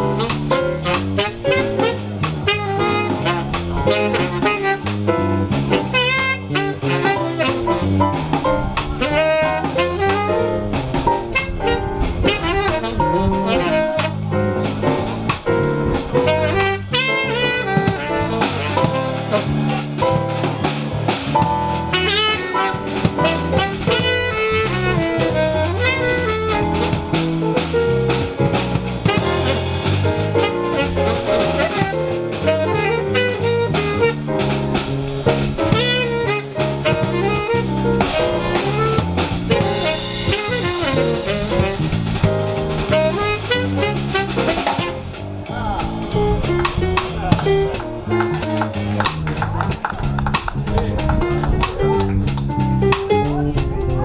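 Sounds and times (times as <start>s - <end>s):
saxophone melody: 0.0s - 49.2s
drum kit: 0.0s - 54.0s
low bass line: 0.0s - 54.0s.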